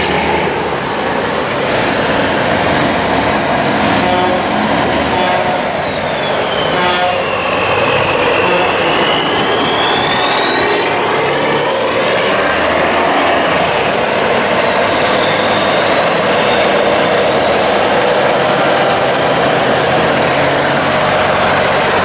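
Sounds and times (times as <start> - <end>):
diesel trucks driving by: 0.0 - 22.0
high engine whine: 0.0 - 22.0.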